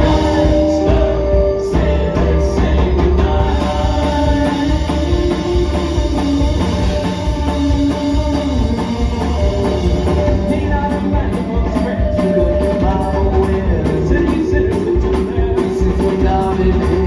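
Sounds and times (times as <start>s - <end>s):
person singing: 0.0s - 5.8s, 8.1s - 17.0s
electric guitar: 0.0s - 17.0s
live country band: 0.0s - 17.0s.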